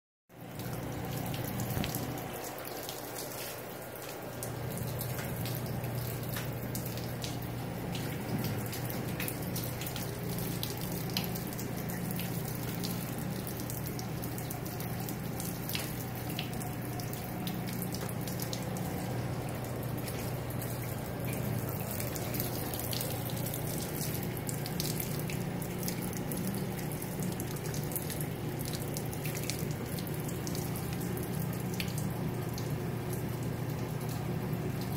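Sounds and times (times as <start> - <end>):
water streaming and trickling: 0.3 - 34.9.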